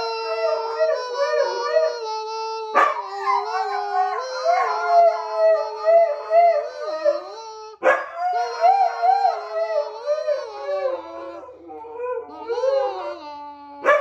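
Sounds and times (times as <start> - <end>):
dog howling: 0.0 - 14.0.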